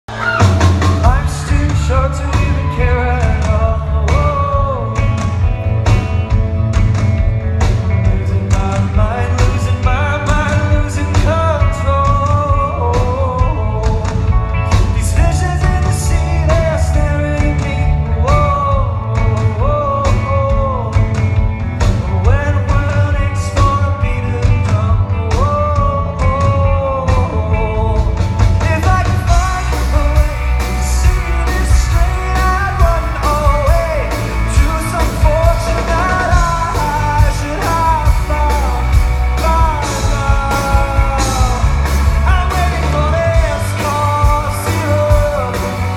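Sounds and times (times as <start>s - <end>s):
rock band playing: 0.0s - 45.9s
man singing: 0.1s - 45.9s.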